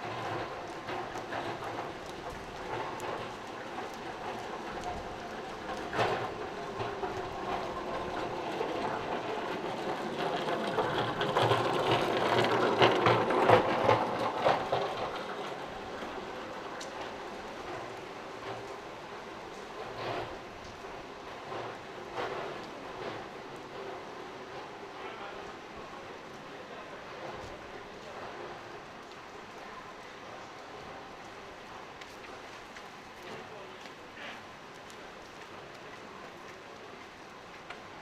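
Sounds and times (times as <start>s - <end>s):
waterfront ambience: 0.0s - 38.0s.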